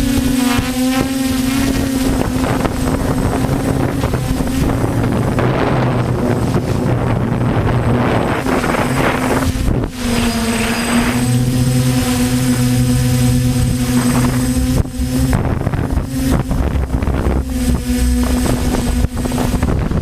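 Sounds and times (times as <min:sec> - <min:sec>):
drone propellers humming: 0:00.0 - 0:20.0
wind buffeting microphone: 0:00.0 - 0:20.0.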